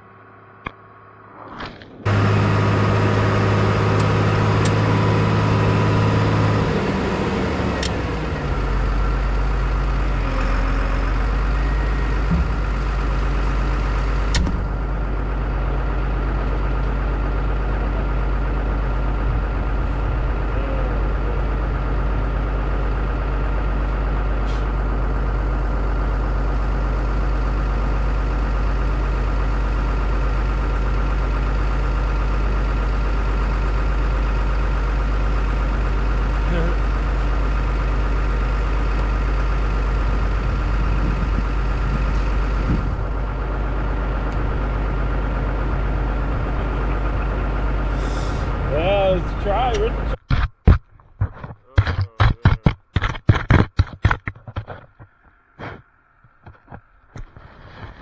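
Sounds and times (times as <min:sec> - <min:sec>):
snowcat engine idling: 0:00.0 - 0:50.3.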